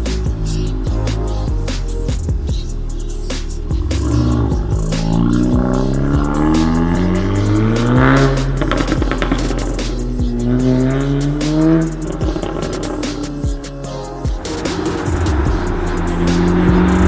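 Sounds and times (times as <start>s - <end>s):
background music: 0.0s - 17.0s
car engine accelerating hard: 0.0s - 17.0s.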